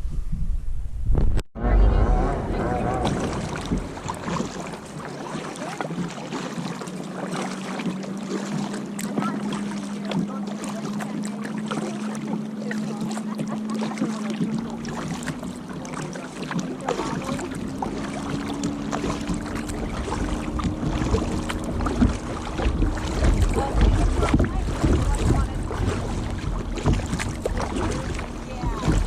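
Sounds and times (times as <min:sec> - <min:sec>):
low hum: 0:00.0 - 0:16.2, 0:16.8 - 0:29.0
wind buffeting microphone: 0:00.0 - 0:29.0
paddle strokes in water: 0:02.2 - 0:29.0
water splashes and drips: 0:03.0 - 0:29.0.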